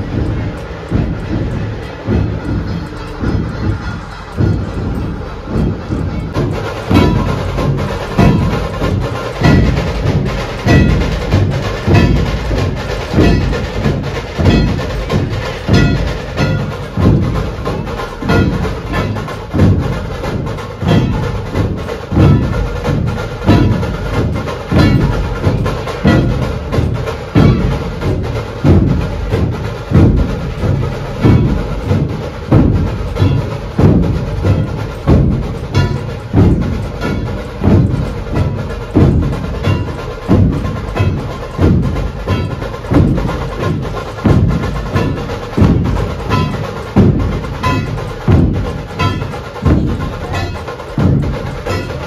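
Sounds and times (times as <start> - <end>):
large drums beating: 0.0 - 52.0.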